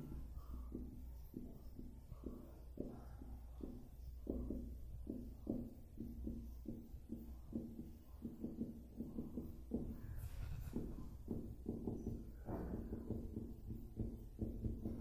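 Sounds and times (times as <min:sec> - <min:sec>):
writing on a board: 0:00.0 - 0:15.0.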